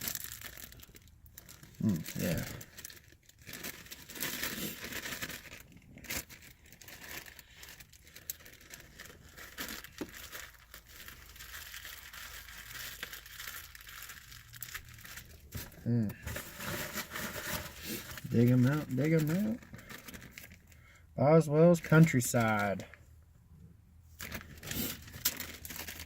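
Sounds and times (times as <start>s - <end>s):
plastic bags crinkling: 0.0s - 21.0s, 21.8s - 23.0s, 24.2s - 26.0s.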